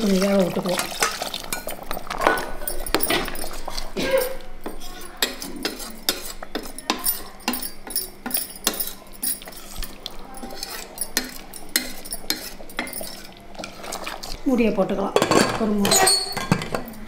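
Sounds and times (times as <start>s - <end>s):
metal ladle scraping a metal pot: 0.0s - 14.4s, 15.2s - 16.8s.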